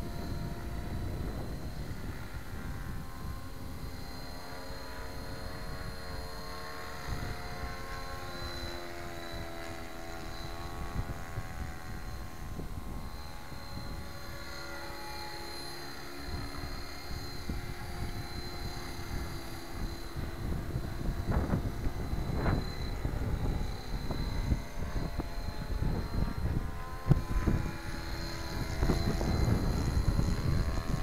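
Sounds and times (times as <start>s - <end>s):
rc helicopter rotor whine: 0.0s - 31.0s.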